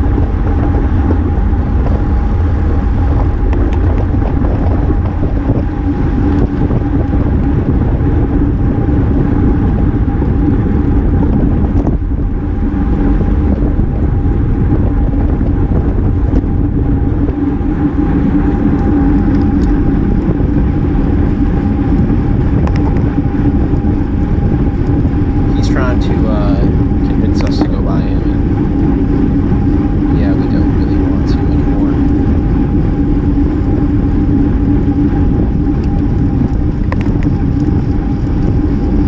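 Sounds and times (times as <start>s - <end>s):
steady low hum: 0.0s - 39.0s
wind rushing over microphone: 0.0s - 39.0s.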